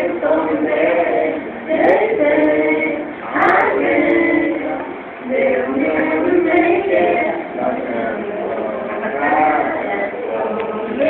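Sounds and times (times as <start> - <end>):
young men singing together: 0.0 - 11.0.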